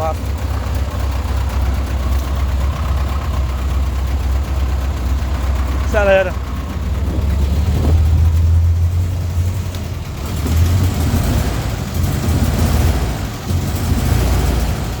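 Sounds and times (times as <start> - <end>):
bus diesel engine revving: 0.0 - 15.0.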